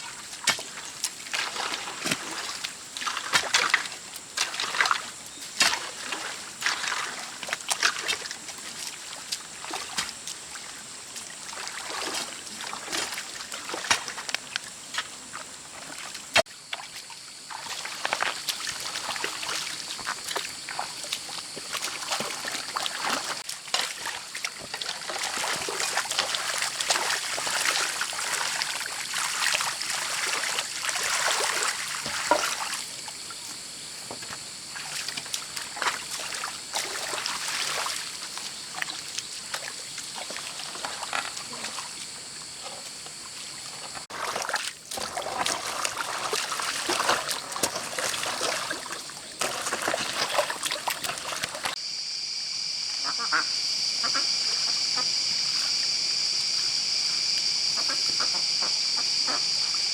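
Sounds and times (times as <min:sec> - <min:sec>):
water sloshing and splashing: 0:00.0 - 0:51.8
water trickling: 0:00.0 - 0:51.8.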